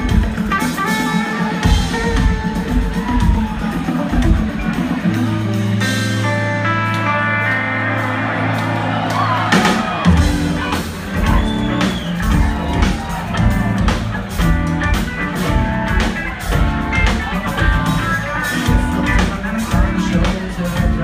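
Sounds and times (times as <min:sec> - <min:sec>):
drum and bass beat: 0:00.0 - 0:06.6, 0:07.8 - 0:21.0
keyboards: 0:00.0 - 0:21.0
rock band playing live: 0:00.0 - 0:21.0.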